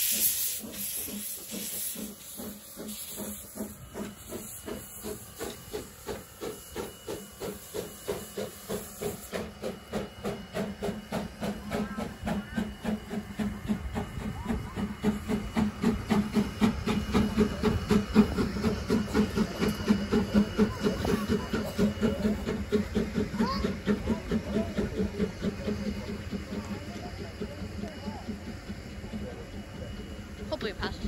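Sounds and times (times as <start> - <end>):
steam hissing: 0.0 - 31.0
steam locomotive chuffing: 0.0 - 31.0.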